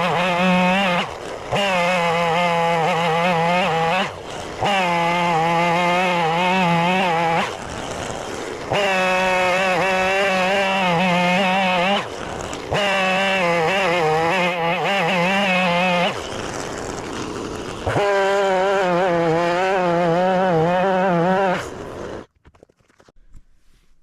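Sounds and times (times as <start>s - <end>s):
chainsaw cutting timber: 0.0s - 22.3s.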